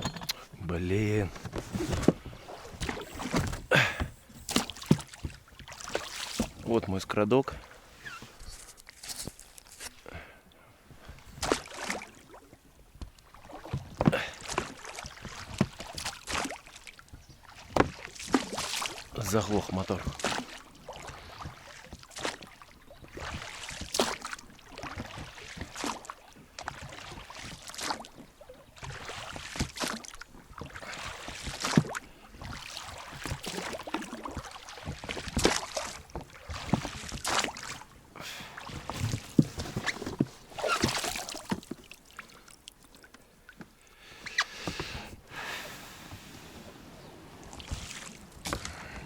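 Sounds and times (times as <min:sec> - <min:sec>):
oars knocking against boat: 0:00.0 - 0:10.0, 0:11.0 - 0:43.8, 0:44.4 - 0:49.0
oars splashing water: 0:00.0 - 0:49.0.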